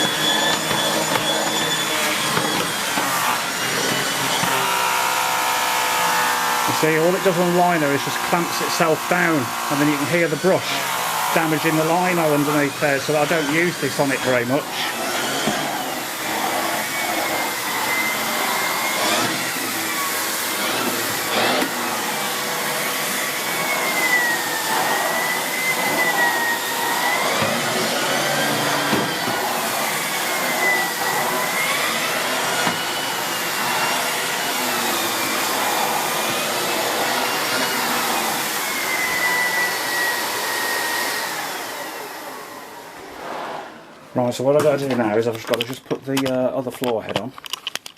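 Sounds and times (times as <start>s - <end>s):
vacuum cleaner running: 0.0s - 45.2s.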